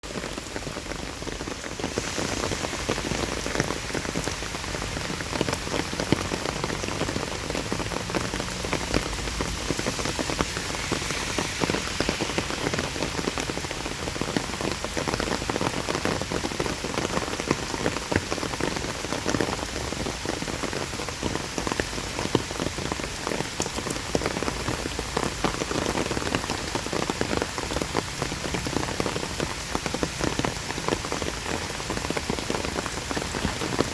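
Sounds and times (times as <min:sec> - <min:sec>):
rain falling: 0:00.0 - 0:33.9
raindrops tapping on surfaces: 0:00.0 - 0:33.9.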